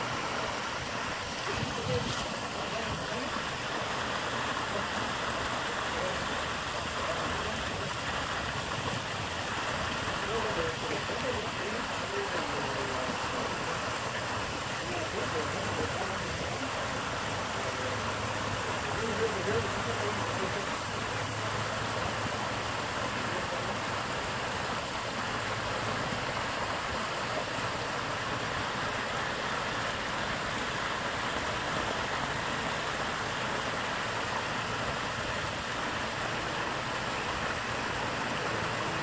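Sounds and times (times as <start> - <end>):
waterfall splashing over stone: 0.0 - 39.0.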